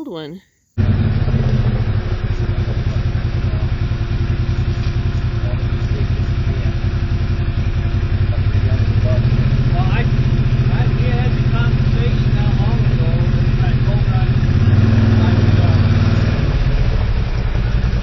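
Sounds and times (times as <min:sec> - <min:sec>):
vehicle engine running under load: 0:00.8 - 0:18.0.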